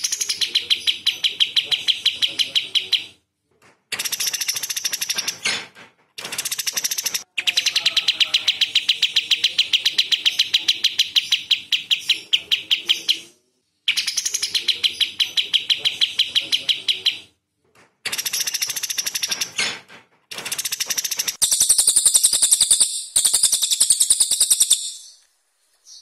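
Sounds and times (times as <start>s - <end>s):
bird singing rapid sharp notes: 0.0s - 3.2s, 3.9s - 5.6s, 6.2s - 13.3s, 13.9s - 17.3s, 18.1s - 19.7s, 20.4s - 25.2s.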